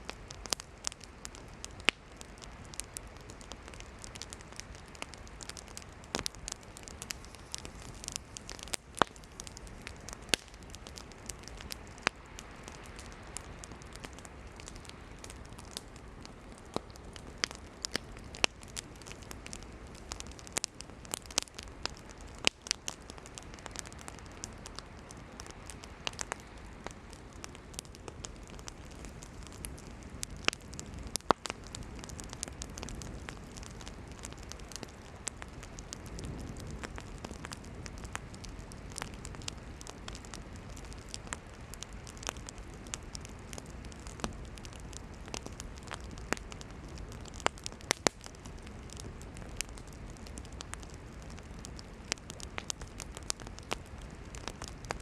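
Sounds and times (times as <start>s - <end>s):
firewood crackling and popping: 0.0s - 55.0s
hiss of flame: 0.0s - 55.0s.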